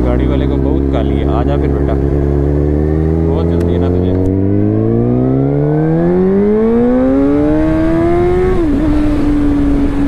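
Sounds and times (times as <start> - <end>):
muffled motorcycle engine accelerating: 0.0 - 10.0.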